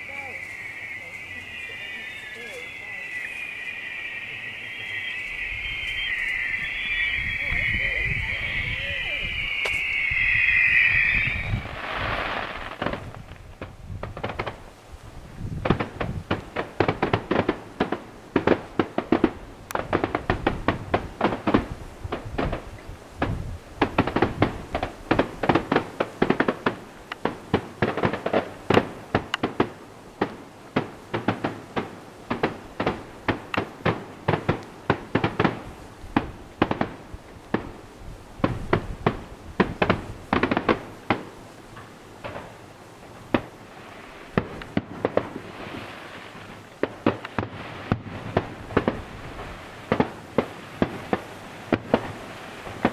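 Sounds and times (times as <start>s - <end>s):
fireworks bursting and crackling: 0.0s - 52.9s.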